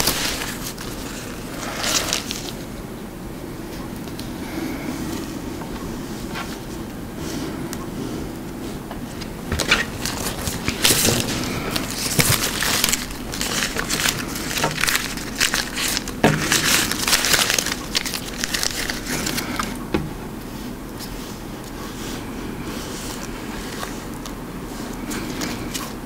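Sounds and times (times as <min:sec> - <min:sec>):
foam strip crackling and scraping: 0:00.0 - 0:02.8, 0:04.9 - 0:26.0.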